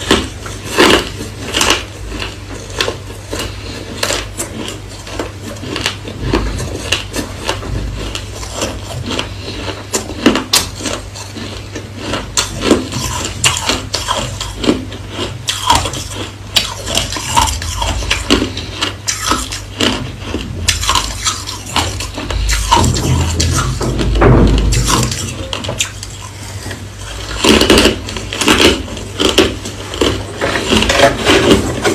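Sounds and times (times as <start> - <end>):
crushed ice being chewed: 0.0 - 31.9
low steady hum: 0.0 - 31.9.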